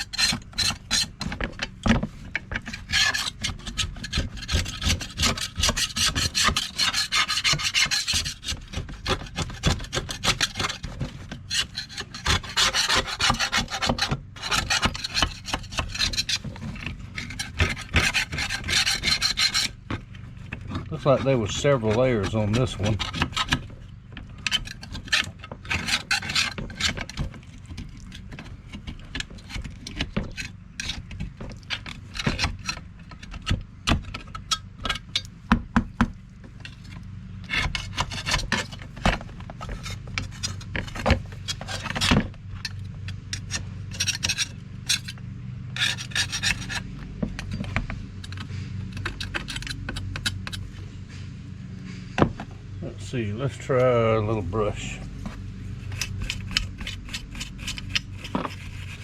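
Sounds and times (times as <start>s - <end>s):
scraper scraping paint off metal: 0.0s - 52.4s, 53.4s - 59.0s
steady low hum: 0.0s - 59.0s.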